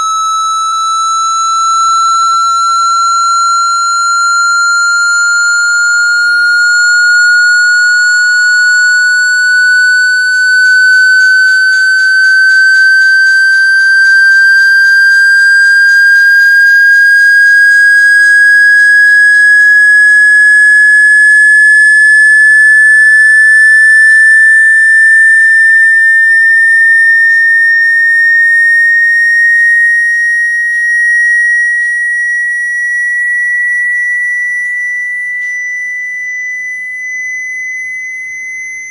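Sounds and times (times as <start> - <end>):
electronic sine tone gliding upward: 0.0 - 38.9.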